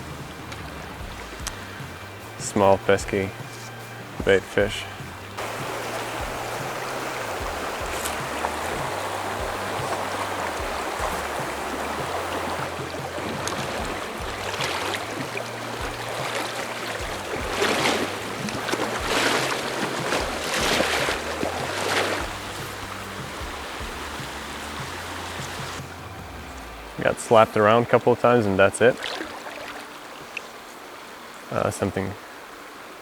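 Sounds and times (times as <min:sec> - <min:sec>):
fast river rushing: 0:00.0 - 0:33.0
water splashing surges: 0:00.0 - 0:33.0.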